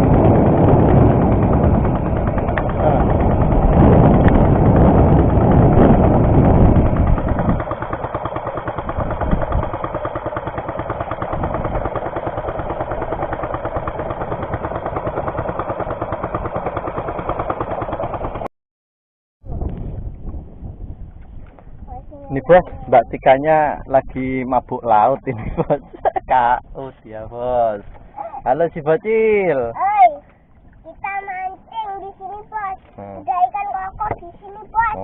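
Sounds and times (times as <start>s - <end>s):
boat engine running: 0.0s - 18.5s, 19.4s - 35.0s.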